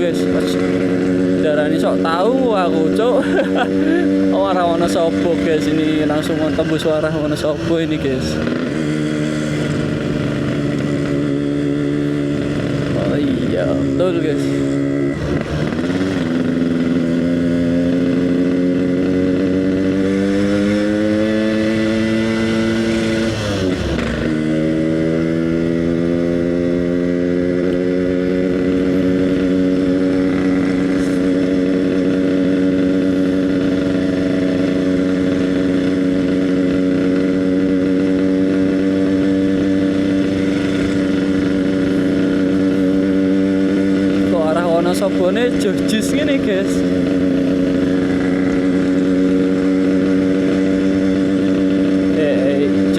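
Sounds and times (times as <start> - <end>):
two-stroke motorcycle engine revving: 0.0 - 52.9.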